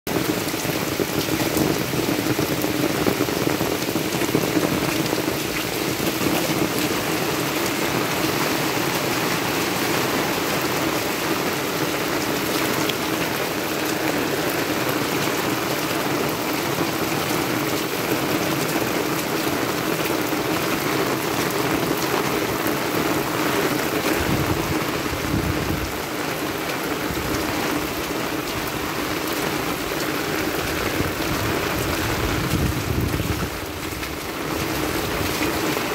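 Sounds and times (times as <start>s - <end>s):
heavy rain on dirt road: 0.1s - 35.9s.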